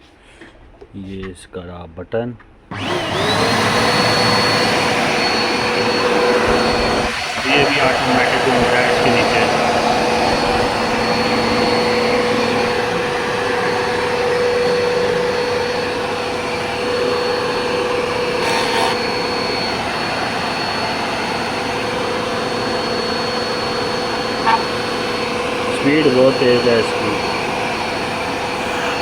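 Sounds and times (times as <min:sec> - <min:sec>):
vacuum cleaner running: 0:02.7 - 0:29.0.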